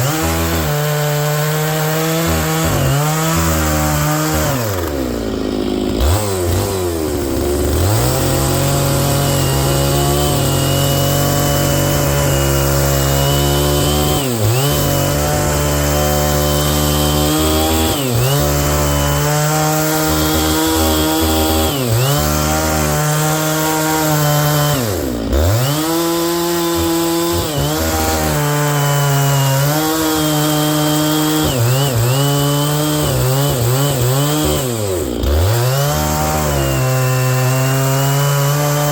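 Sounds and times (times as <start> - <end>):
chainsaw ripping a log: 0.0 - 38.9.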